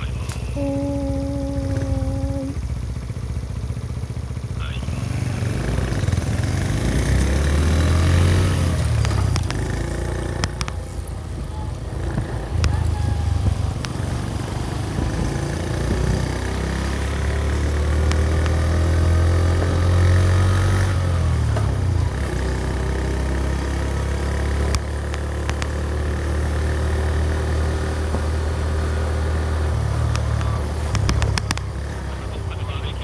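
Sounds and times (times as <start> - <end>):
small motorcycle engine running: 0.0 - 33.0.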